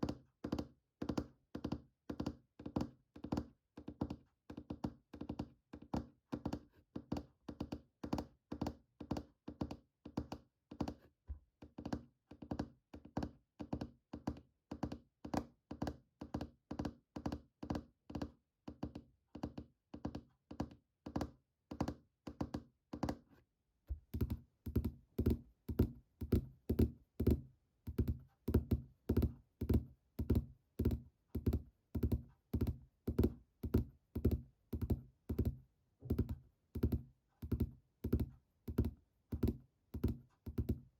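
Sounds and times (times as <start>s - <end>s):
fingernails tapping on hard object: 0.0s - 11.0s, 11.6s - 23.3s, 24.0s - 40.9s.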